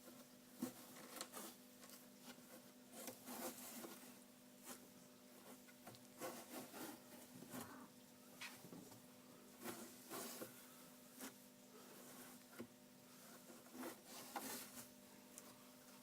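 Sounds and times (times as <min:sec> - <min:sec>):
kittens rustling and scratching: 0:00.0 - 0:16.0.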